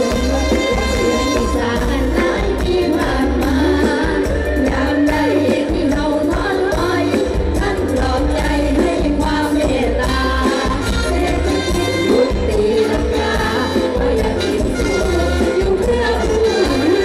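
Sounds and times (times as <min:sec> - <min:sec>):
bass and drum beat: 0:00.0 - 0:17.0
person singing: 0:00.0 - 0:17.0.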